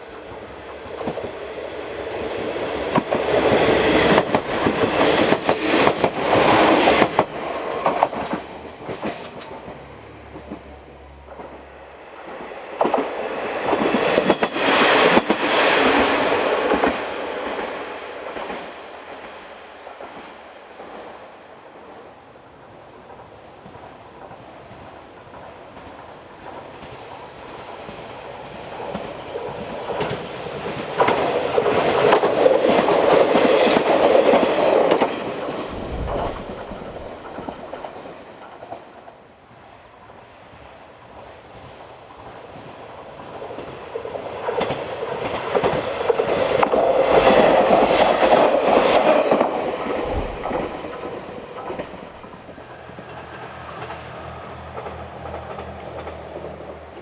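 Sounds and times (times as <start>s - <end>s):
railcar passing: 0.0s - 57.0s.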